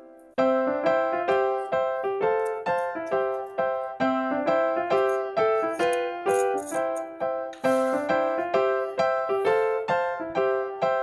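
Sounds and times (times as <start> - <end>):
light piano-like keyboard melody: 0.0 - 11.0.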